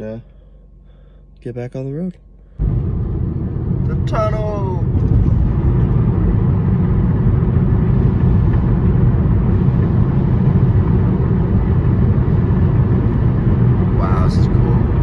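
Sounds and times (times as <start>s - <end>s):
car engine and tyre rumble: 2.6s - 15.0s.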